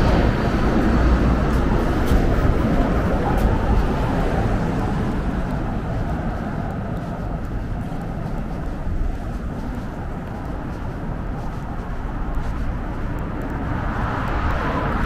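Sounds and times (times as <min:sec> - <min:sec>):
rumble of road traffic: 0:00.0 - 0:15.0
vehicle passing close: 0:00.0 - 0:15.0.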